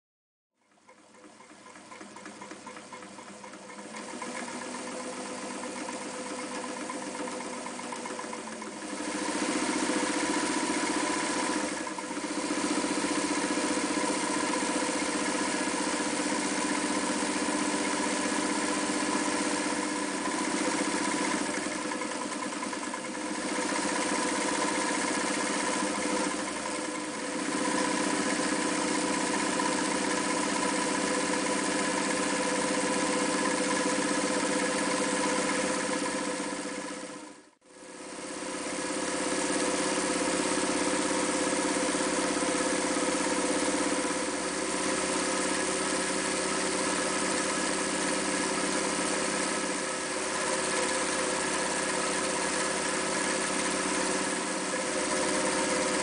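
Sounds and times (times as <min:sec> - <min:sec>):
electric sewing machine stitching: 0:00.6 - 0:56.0.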